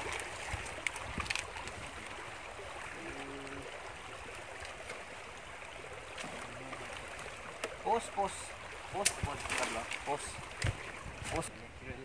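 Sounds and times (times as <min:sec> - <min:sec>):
river rushing over stones: 0:00.0 - 0:11.5.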